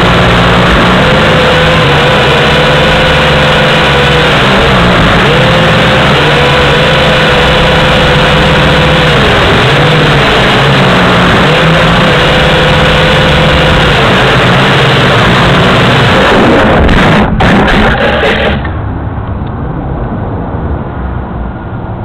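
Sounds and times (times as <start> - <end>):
drone propellers whining: 0.0 - 20.6.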